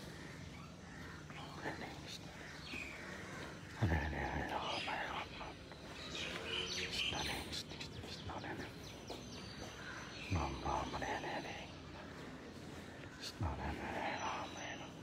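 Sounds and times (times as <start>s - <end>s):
birds chirping and tweeting: 0.0s - 15.0s.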